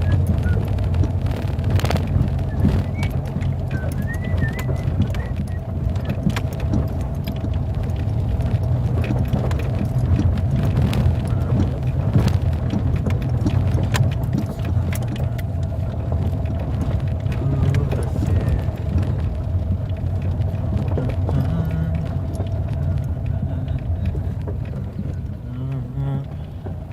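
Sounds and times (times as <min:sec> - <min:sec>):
faint steady hum: 0:00.0 - 0:26.9
vehicle engine and road rumble: 0:00.0 - 0:26.9.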